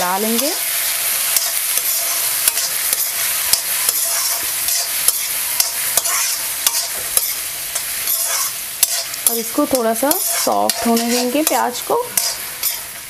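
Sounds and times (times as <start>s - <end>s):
onion sizzling in hot oil: 0.0s - 13.0s
spatula scraping a pan: 0.2s - 13.0s.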